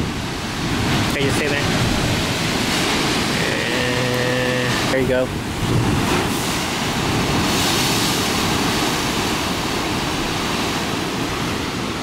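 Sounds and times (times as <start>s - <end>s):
ocean surf breaking on rocks: 0.0s - 12.0s
wind buffeting microphone: 0.0s - 12.0s.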